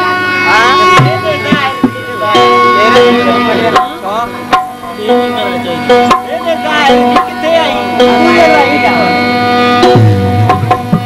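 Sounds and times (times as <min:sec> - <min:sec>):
drone notes: 0:00.0 - 0:11.0
tabla strokes: 0:00.0 - 0:11.0
gliding melody: 0:00.5 - 0:11.0.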